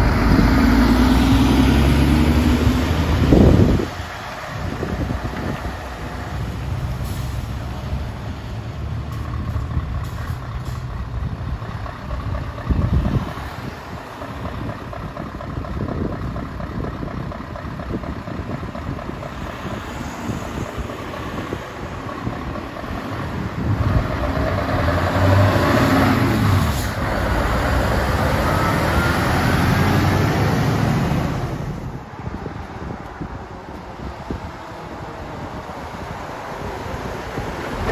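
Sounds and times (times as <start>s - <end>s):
diesel trucks driving past: 0.0s - 37.9s
truck accelerating whine: 0.0s - 37.9s.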